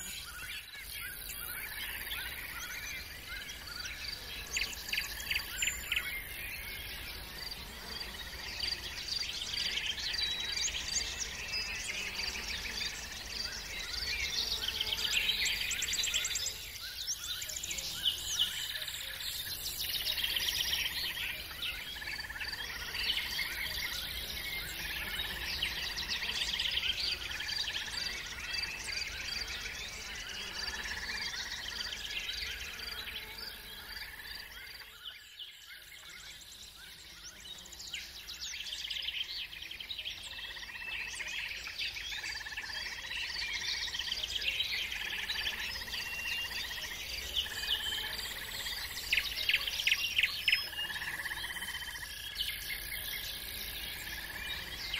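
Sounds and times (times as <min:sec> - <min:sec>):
birds chirping and singing: 0:00.0 - 0:54.9.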